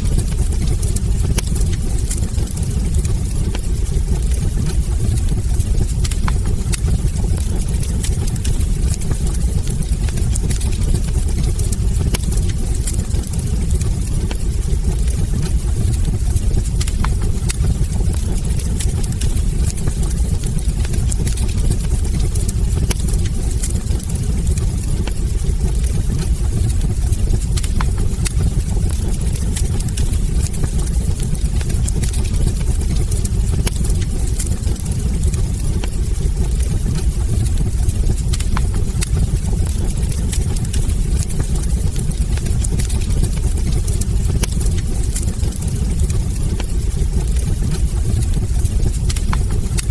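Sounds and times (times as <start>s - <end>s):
fire roaring: 0.0s - 49.9s
logs crackling and popping: 0.0s - 49.9s.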